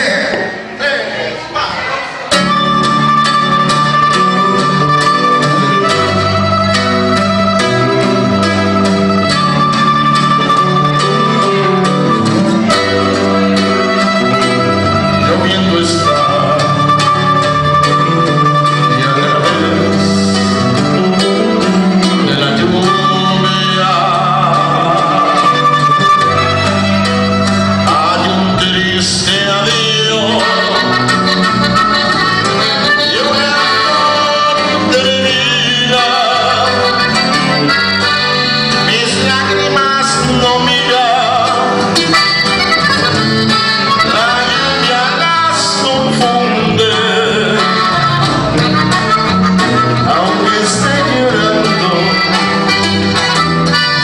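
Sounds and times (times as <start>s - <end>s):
strummed guitar: 1.7s - 54.0s
button accordion melody: 2.3s - 54.0s
electric bass line: 2.3s - 54.0s.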